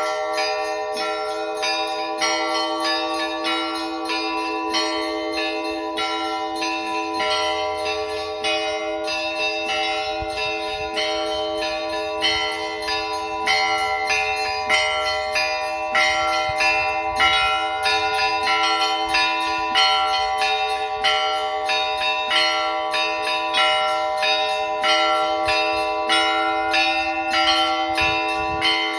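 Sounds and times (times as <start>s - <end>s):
hum of large bells: 0.0s - 28.9s
small church bells ringing: 0.0s - 28.9s.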